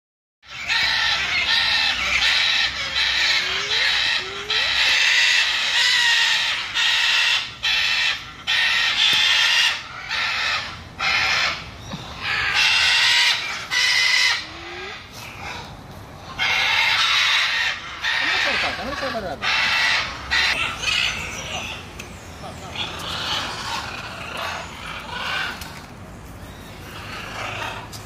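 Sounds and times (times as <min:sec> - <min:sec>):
harsh bird squawks: 0:00.4 - 0:25.8, 0:26.6 - 0:28.0.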